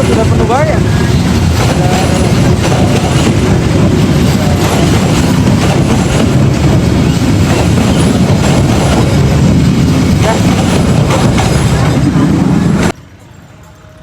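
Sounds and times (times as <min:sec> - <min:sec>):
locomotive diesel engine rumbling: 0:00.0 - 0:14.0.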